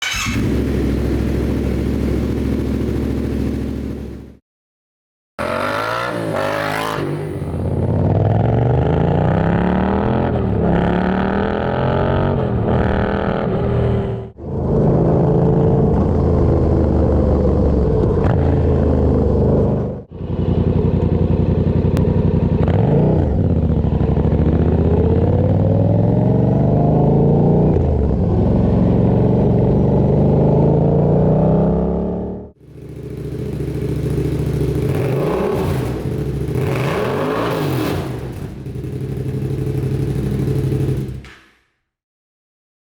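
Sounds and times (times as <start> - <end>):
motorcycle engine revving: 0.0 - 4.4, 5.4 - 41.4.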